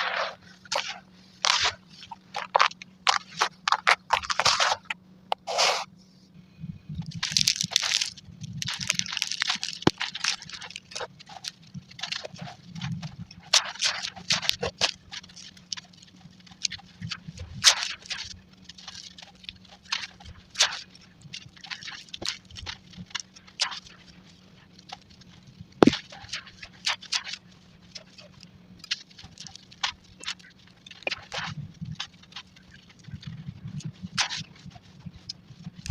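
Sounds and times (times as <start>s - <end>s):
charcoal crunching and crackling: 0.0s - 5.9s, 6.9s - 35.9s
faint low hum: 0.0s - 35.9s.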